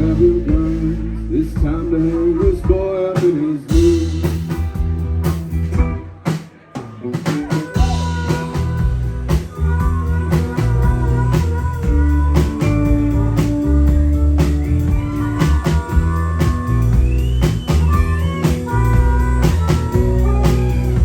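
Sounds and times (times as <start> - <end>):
bass and guitar lines: 0.0 - 21.0
drum kit beat: 0.0 - 21.0.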